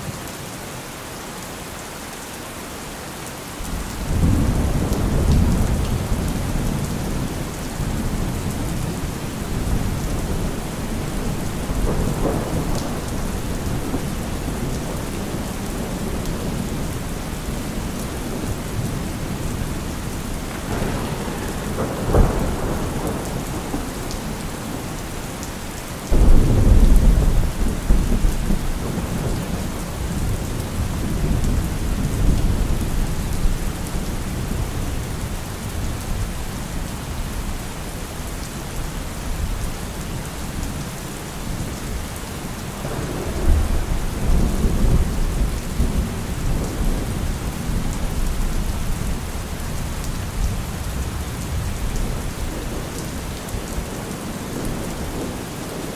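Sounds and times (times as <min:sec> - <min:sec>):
heavy rain: 0:00.0 - 0:55.9
thunder rumbling: 0:03.7 - 0:36.6, 0:41.5 - 0:55.9.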